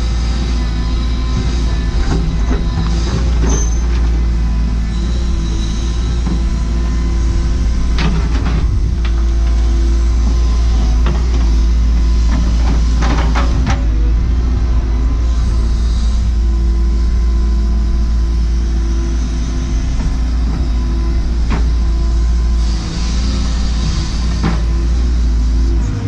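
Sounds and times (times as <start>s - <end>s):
excavator diesel engine rumbling: 0.0s - 26.0s.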